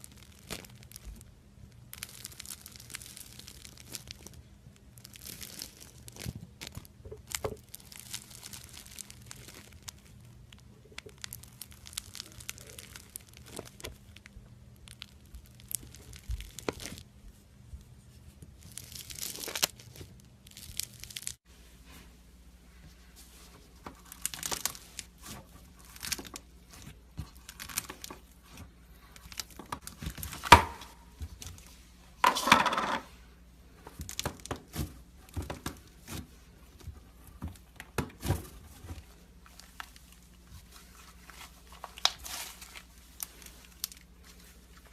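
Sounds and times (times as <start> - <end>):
slime crackling and squishing: 0.0 - 21.4, 23.0 - 32.2, 33.1 - 44.9.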